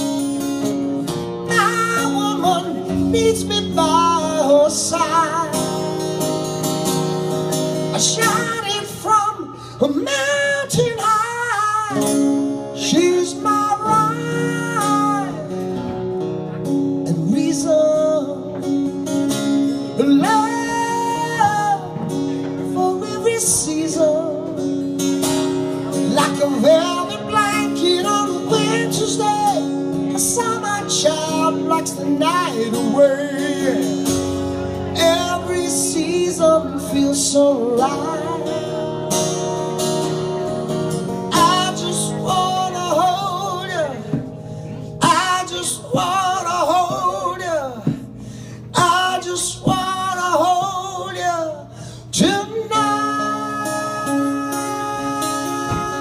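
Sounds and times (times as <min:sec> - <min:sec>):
man singing: 0:00.0 - 0:16.0, 0:16.7 - 0:40.1, 0:40.9 - 0:56.0
acoustic guitar: 0:00.0 - 0:56.0.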